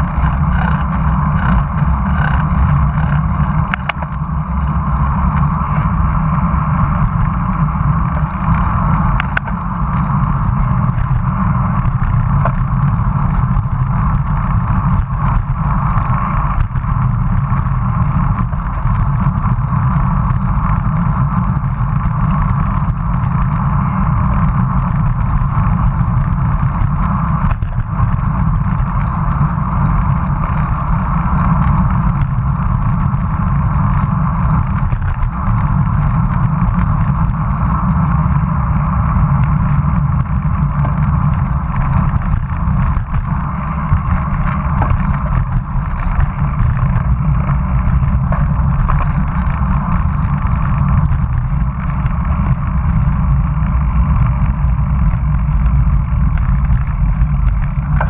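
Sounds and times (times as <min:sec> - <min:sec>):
tyre and road noise: 0:00.0 - 0:58.0.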